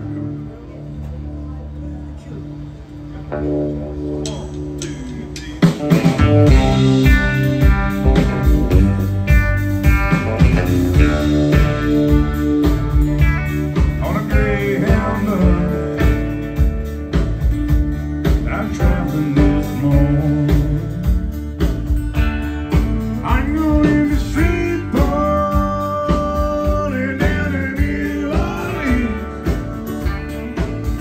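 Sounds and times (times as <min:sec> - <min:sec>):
bass: 0:00.0 - 0:31.0
drums: 0:00.0 - 0:31.0
electric guitar: 0:00.0 - 0:31.0.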